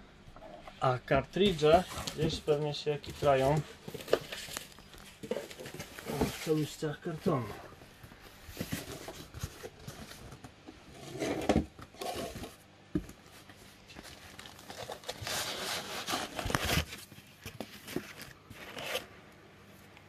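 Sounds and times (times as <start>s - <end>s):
cardboard rustling and scraping: 0.4s - 19.1s.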